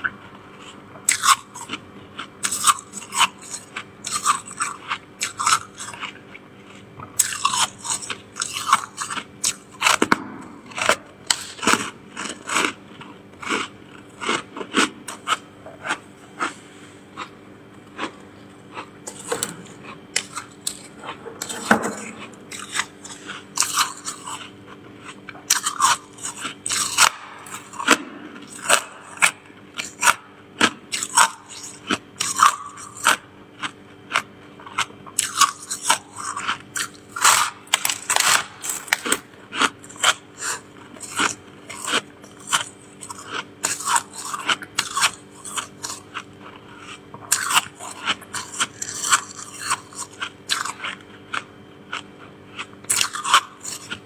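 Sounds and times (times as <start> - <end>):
frost being chewed: 0.0 - 54.0
steady low hum: 0.0 - 54.0.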